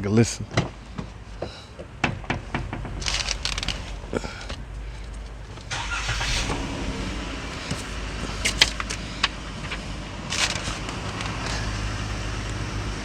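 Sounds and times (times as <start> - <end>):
car engine starting and idling: 0.8 - 13.0.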